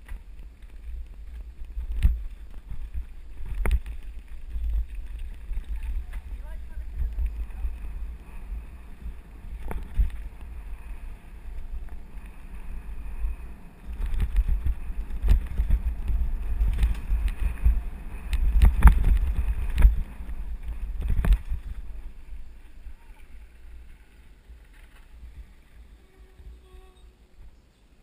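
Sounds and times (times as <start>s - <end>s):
bike knocking and rattling: 0.0s - 27.0s
low rumble: 0.0s - 27.6s
wind buffeting microphone: 0.0s - 27.6s.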